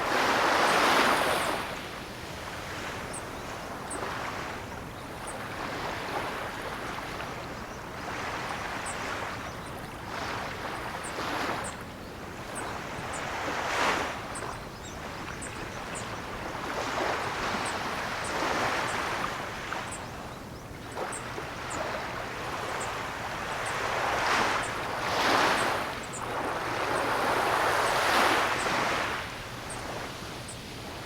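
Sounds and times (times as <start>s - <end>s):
waves breaking on shore: 0.0s - 31.0s.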